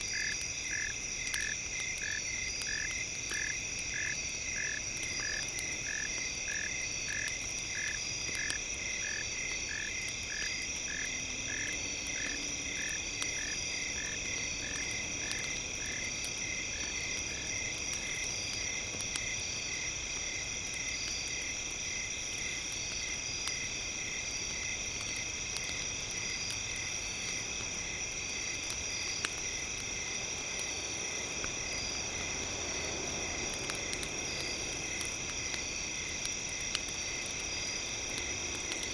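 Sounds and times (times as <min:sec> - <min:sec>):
faint fire crackles: 0:00.0 - 0:38.9.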